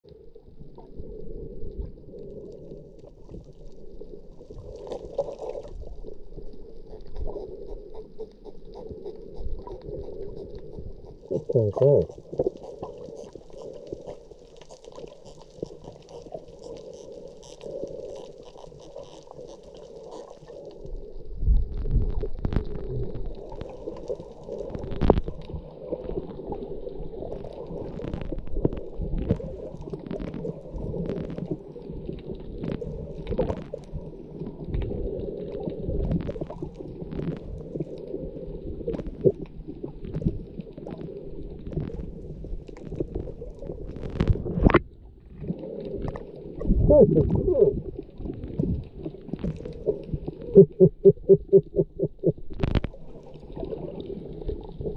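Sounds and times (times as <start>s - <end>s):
water gurgling and rumbling underwater: 0.0s - 54.9s.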